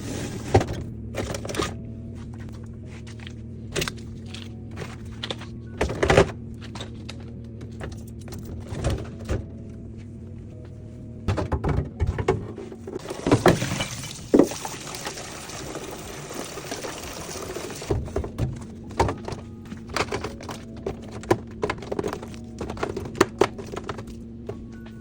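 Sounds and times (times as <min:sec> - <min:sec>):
groceries knocking and clattering: 0:00.0 - 0:25.0.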